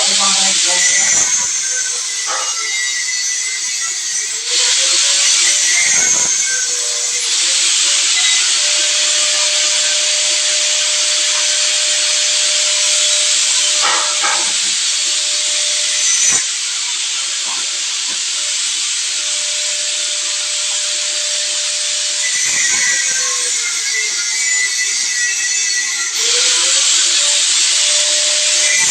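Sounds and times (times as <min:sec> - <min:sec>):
power sprayer hissing: 0:00.0 - 0:28.9
pump motor whine: 0:00.0 - 0:28.9.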